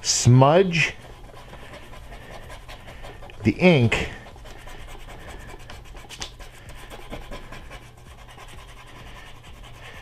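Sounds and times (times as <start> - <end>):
eraser rubbing on paper: 0.0 - 10.0.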